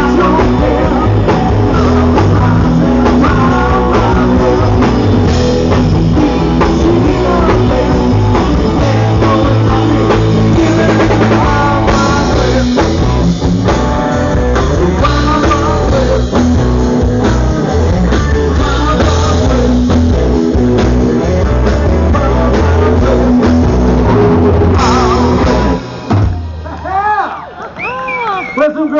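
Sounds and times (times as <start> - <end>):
person singing: 0.0 - 25.9
drum kit: 0.0 - 27.2
electric guitar: 0.0 - 27.9.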